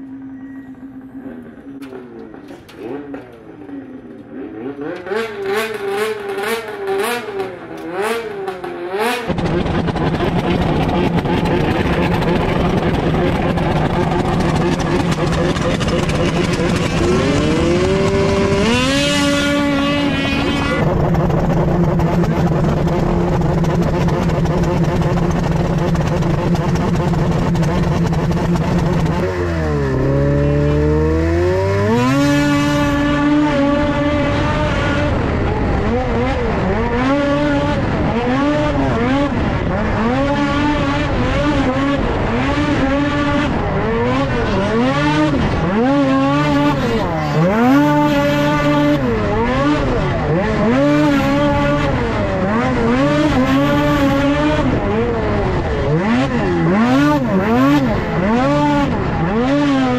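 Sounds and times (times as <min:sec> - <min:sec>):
snowmobile engines revving: 0:00.0 - 0:59.9.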